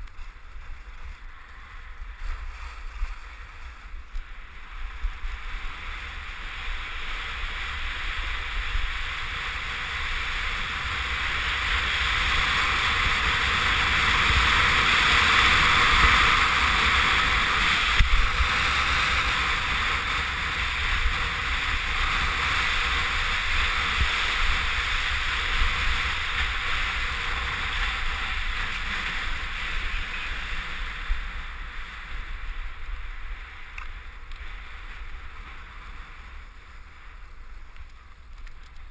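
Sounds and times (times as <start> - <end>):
skis scraping over packed snow: 0.0 - 38.9
wind rushing over microphone: 0.0 - 38.9.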